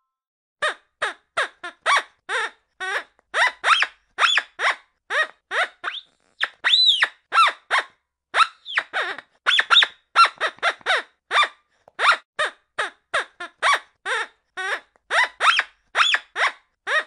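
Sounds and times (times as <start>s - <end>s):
squeaking toy duck: 0.6s - 17.0s.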